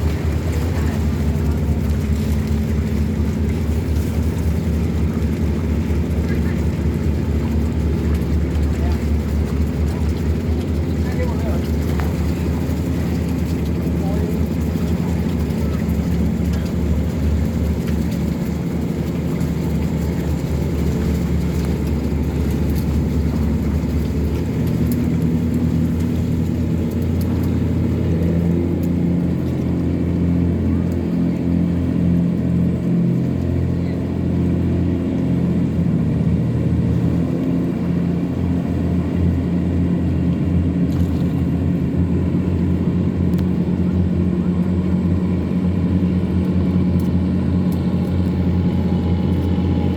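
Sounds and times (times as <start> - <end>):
tugboat engine droning: 0.0 - 49.9.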